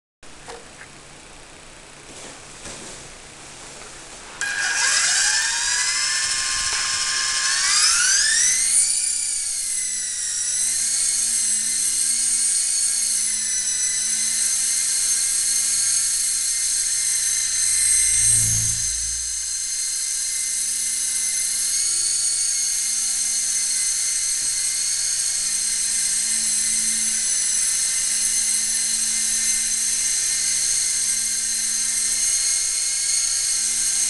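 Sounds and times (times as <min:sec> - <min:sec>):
toy helicopter motor whine: 0:04.4 - 0:34.0.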